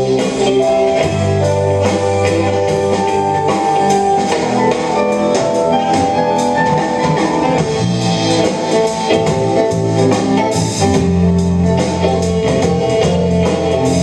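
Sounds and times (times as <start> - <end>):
band playing live: 0.0 - 14.0
drum kit and cymbals: 0.0 - 14.0
electric guitar: 0.0 - 14.0.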